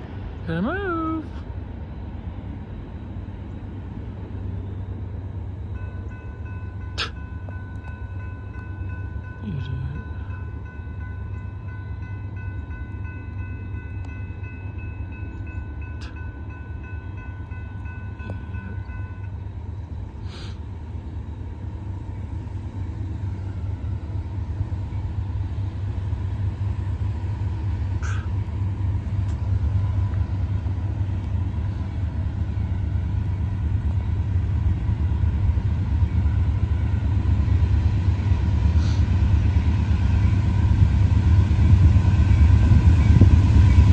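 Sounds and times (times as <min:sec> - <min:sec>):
train rumbling: 0:00.0 - 0:43.9.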